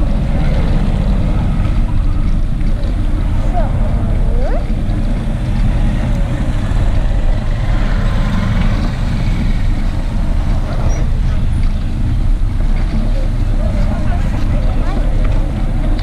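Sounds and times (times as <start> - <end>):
scooters and motorbikes passing: 0.0 - 16.0
wind rumble on microphone: 0.0 - 16.0.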